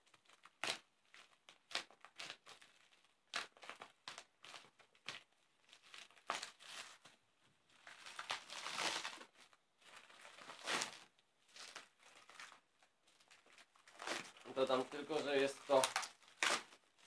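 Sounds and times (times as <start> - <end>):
plastic wrap tearing and crinkling: 0.0 - 17.0.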